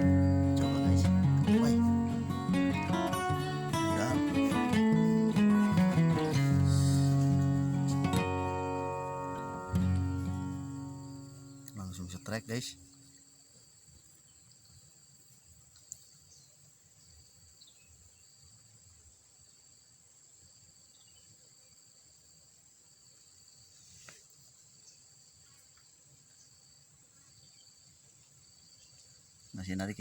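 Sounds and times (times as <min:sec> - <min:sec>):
faint high insect trill: 0:00.0 - 0:30.0.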